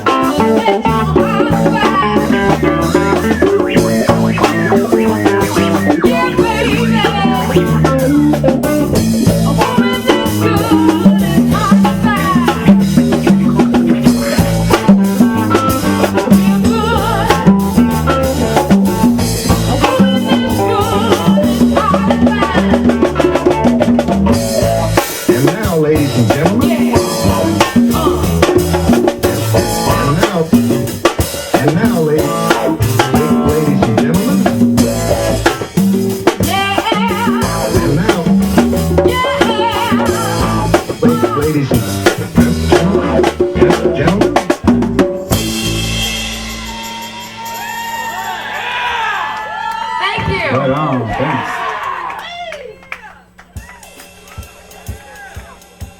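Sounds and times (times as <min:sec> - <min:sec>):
bass line: 0:00.0 - 0:48.5
busy drum kit: 0:00.0 - 0:48.6, 0:50.0 - 0:51.6, 0:53.2 - 0:55.9
band playing: 0:00.0 - 0:51.7
guitar: 0:00.0 - 0:55.9.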